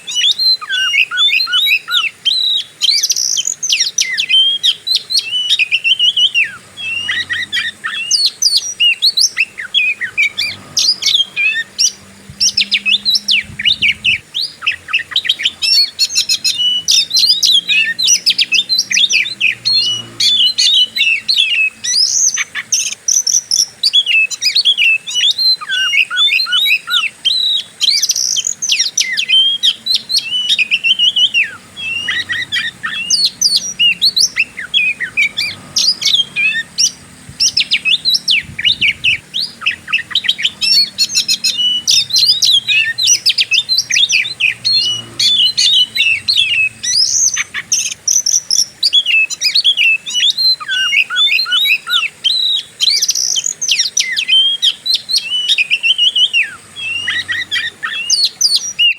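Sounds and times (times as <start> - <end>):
bird singing whistles and trills: 0.0 - 58.9.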